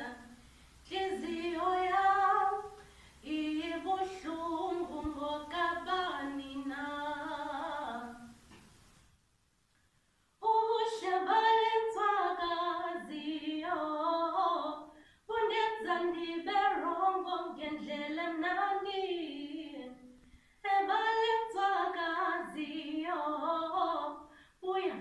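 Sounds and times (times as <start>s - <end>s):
woman singing unaccompanied: 0.0s - 8.5s, 10.4s - 25.0s.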